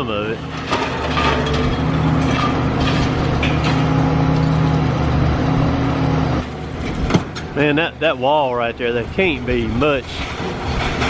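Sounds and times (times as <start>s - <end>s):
diesel excavator engine running: 0.0s - 11.0s.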